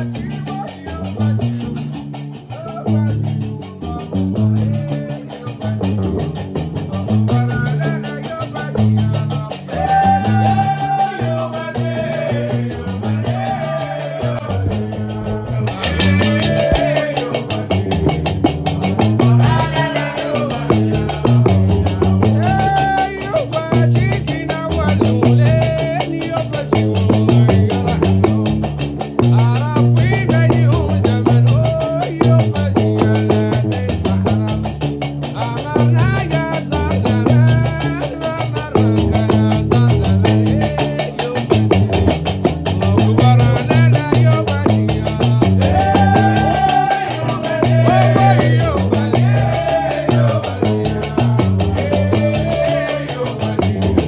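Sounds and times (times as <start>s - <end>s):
men singing: 0.0s - 54.0s
plucked bass lute: 0.0s - 54.0s.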